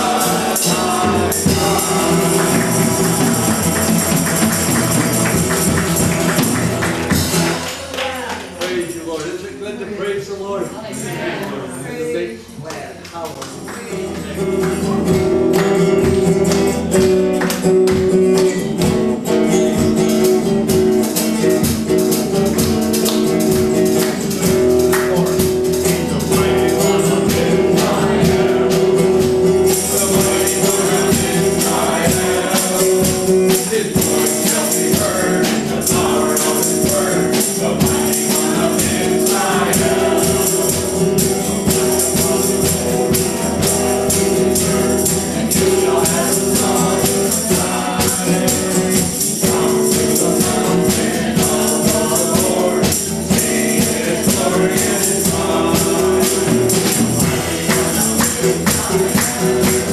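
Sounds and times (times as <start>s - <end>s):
drum kit: 0.0s - 8.6s, 14.0s - 59.9s
group of voices singing: 0.0s - 8.6s, 10.7s - 12.6s, 13.6s - 59.9s
guitar: 0.0s - 59.9s.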